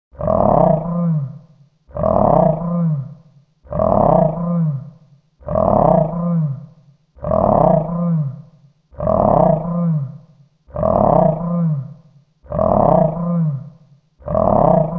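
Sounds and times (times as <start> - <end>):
deep roaring beast growl: 0.1 - 14.9.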